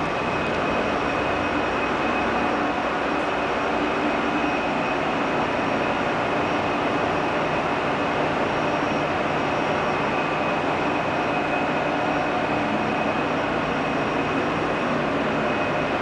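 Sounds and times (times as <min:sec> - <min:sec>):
engine room machinery rush: 0:00.0 - 0:16.0.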